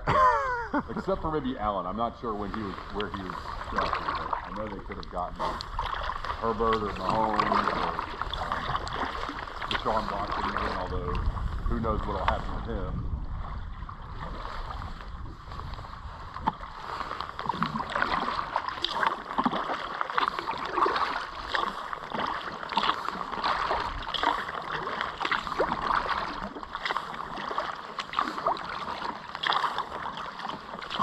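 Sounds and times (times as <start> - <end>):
paddles splashing water: 0.0 - 31.0.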